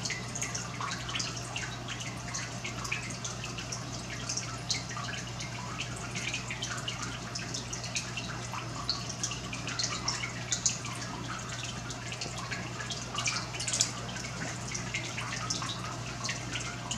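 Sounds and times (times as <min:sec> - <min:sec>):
water dripping and trickling: 0:00.0 - 0:16.9.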